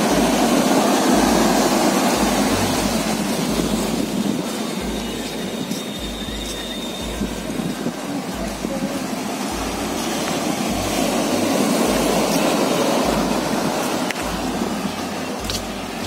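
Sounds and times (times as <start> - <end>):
low pulse: 0.0 - 16.0
sea surf washing over seawall: 0.0 - 16.0.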